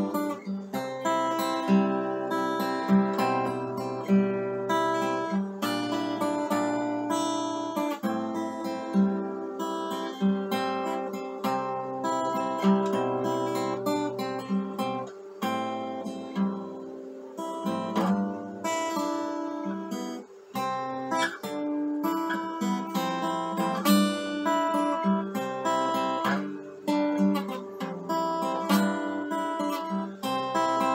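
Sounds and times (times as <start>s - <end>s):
acoustic guitar strumming and picking: 0.0s - 30.9s.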